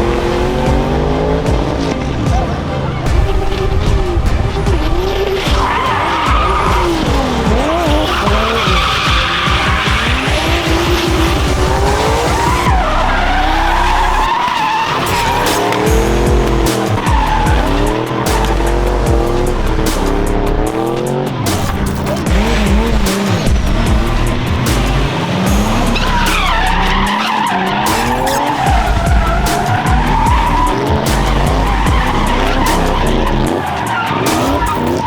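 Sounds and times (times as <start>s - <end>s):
car engine revving: 0.0s - 35.0s
tyres squealing: 0.0s - 35.0s.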